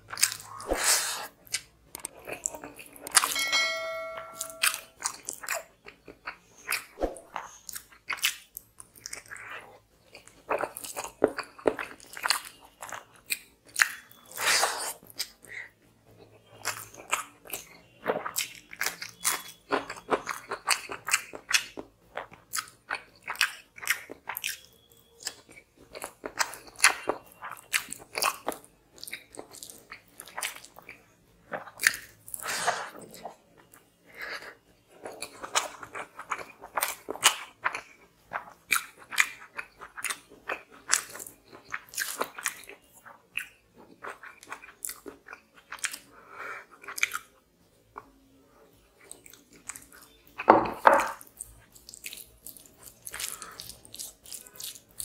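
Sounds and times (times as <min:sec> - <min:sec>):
person chewing food: 0:00.0 - 0:03.3, 0:05.0 - 0:48.3, 0:49.0 - 0:55.0.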